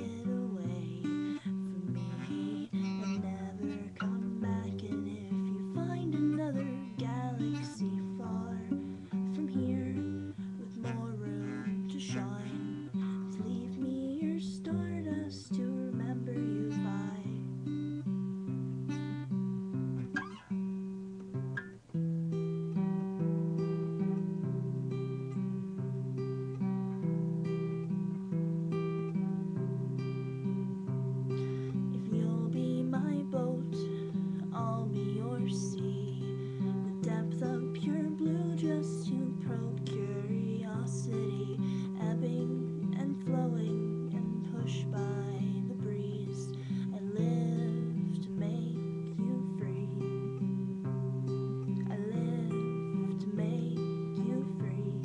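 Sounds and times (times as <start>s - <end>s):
acoustic guitar strummed and picked: 0.0s - 55.0s.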